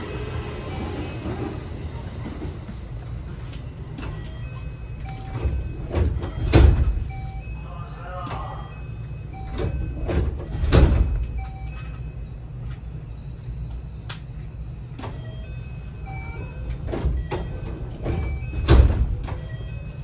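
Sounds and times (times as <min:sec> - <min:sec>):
train car low hum: 0:00.0 - 0:20.0.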